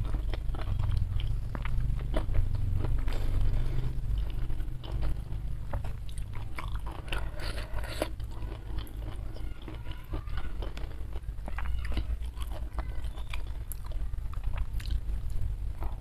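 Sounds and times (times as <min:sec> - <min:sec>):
low steady hum: 0:00.0 - 0:16.0
person chewing: 0:00.0 - 0:16.0.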